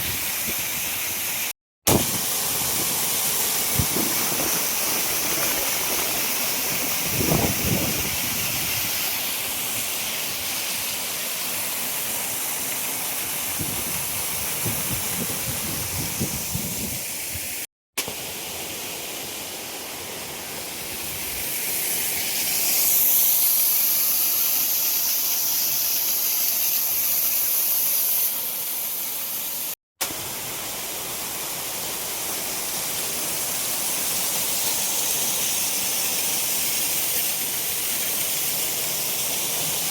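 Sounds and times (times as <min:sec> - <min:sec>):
waterfall rushing and hissing: 0:00.0 - 0:39.9.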